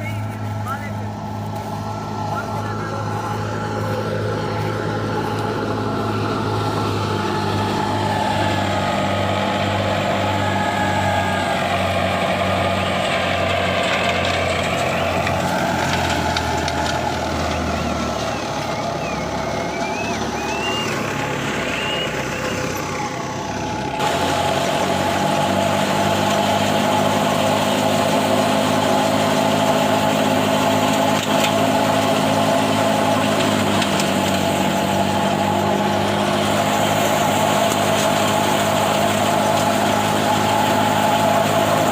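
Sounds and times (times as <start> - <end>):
thresher mechanical drone: 0.0 - 41.9
tractor engine running: 0.0 - 41.9.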